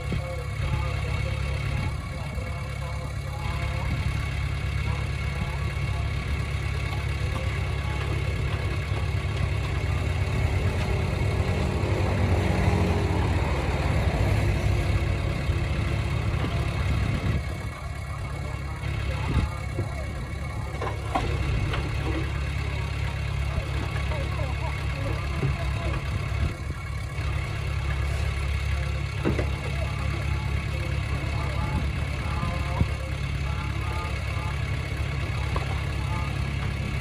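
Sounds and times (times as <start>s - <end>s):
diesel engine rumbling: 0.0s - 37.0s.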